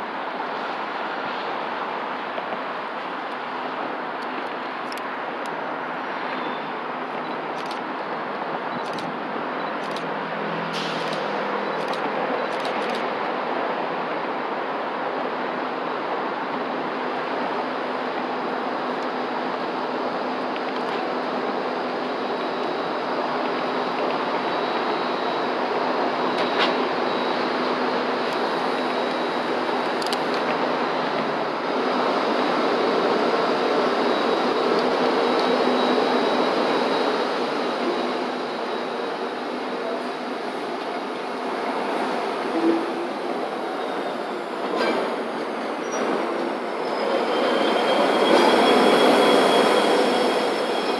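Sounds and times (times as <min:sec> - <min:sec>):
diesel locomotive engine: 0:00.0 - 0:50.9.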